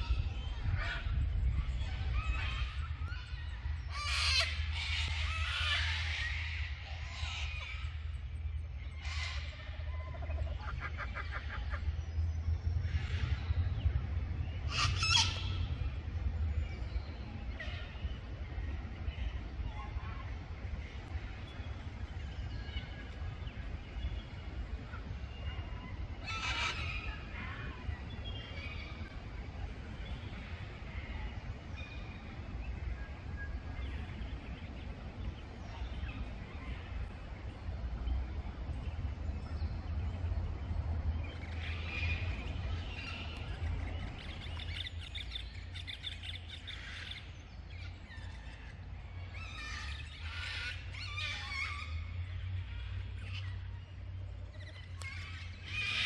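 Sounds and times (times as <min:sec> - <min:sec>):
birds calling and chirping: 0:00.0 - 0:56.0
steady low rumble: 0:00.0 - 0:56.0.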